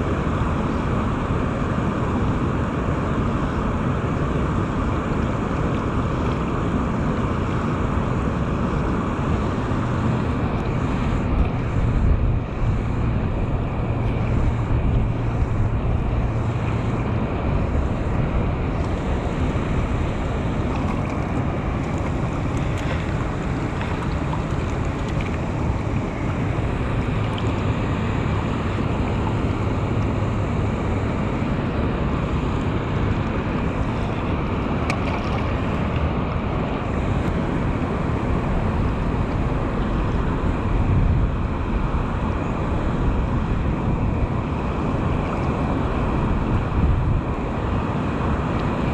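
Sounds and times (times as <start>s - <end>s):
water rushing and churning: 0.0s - 48.9s
wind buffeting microphone: 4.0s - 48.9s.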